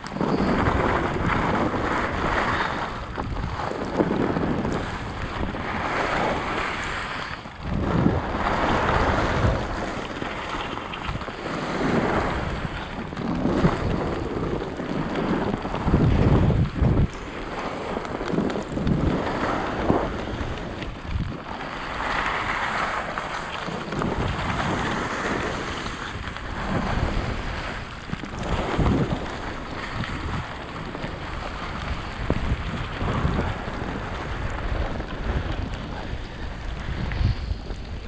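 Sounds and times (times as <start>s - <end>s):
skis scraping over snow: 0.0s - 38.0s
wind buffeting microphone: 0.0s - 38.0s.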